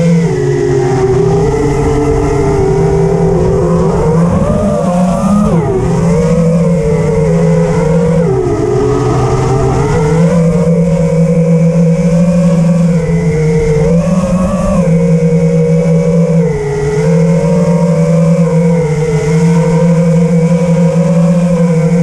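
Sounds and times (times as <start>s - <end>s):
drone motors and propellers whining: 0.0s - 22.0s.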